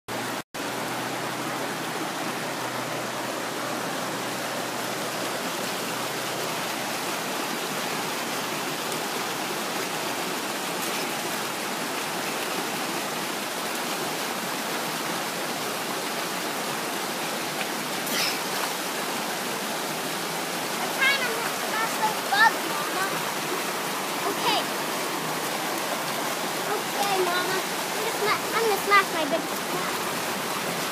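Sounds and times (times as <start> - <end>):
creek water rushing over rocks: 0.1 - 30.9.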